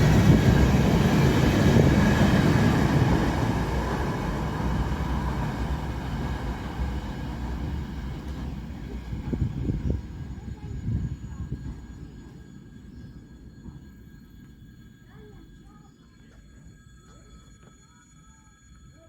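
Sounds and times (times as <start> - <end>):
freight train rumbling past: 0.0 - 15.8.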